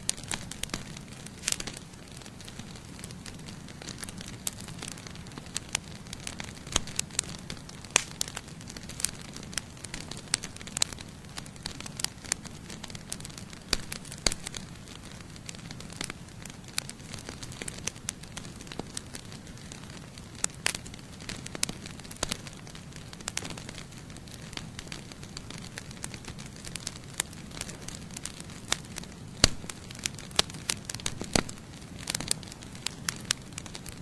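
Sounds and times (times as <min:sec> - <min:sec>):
low rush of flame: 0:00.0 - 0:34.0
wood crackling and popping: 0:00.0 - 0:34.0.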